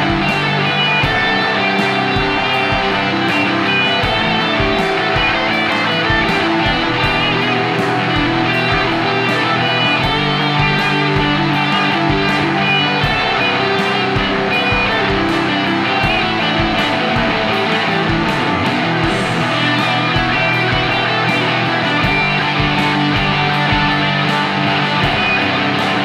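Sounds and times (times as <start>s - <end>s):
rock music: 0.0s - 26.0s.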